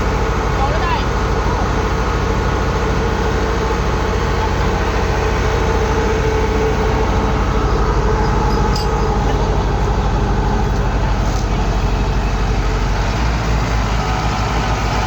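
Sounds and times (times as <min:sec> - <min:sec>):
diesel engine droning with clatter: 0:00.0 - 0:15.0.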